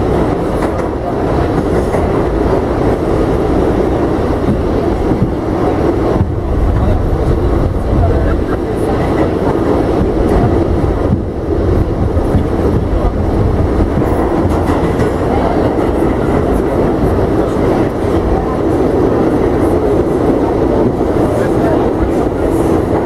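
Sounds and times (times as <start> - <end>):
subway wheels rumbling on rails: 0.0 - 23.0.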